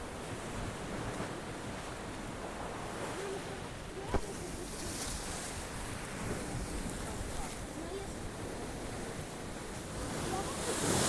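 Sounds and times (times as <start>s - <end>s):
sea waves washing in: 0.0s - 11.0s
wind buffeting microphone: 0.0s - 11.0s.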